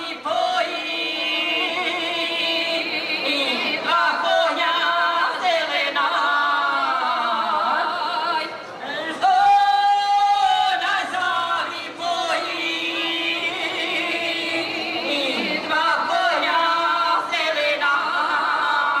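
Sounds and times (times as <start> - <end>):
women singing unaccompanied: 0.0 - 19.0.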